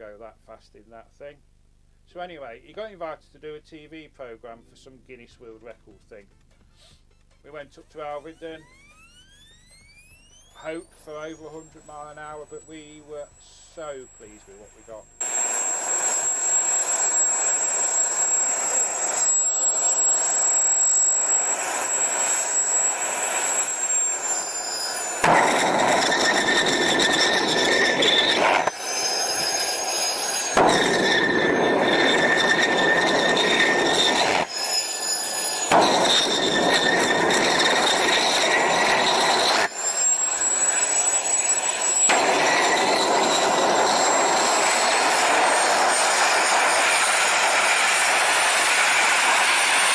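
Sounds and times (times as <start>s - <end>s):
turbojet engine whine and roar: 8.2s - 49.9s.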